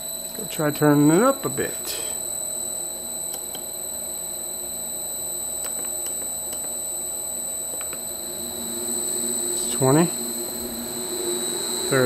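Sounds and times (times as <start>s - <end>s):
high-pitched motor whine: 0.0s - 12.0s.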